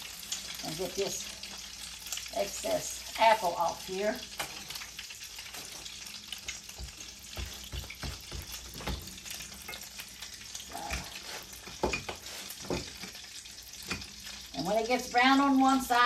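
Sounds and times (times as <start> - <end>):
pies sizzling in hot grease: 0.0 - 16.0.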